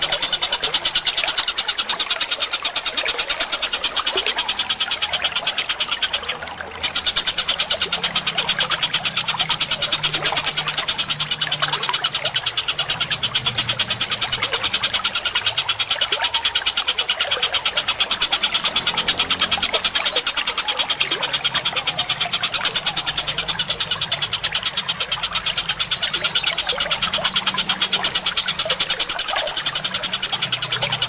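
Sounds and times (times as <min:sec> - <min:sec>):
running water: 0:00.0 - 0:31.0
songbirds chirping rapidly: 0:00.0 - 0:31.0.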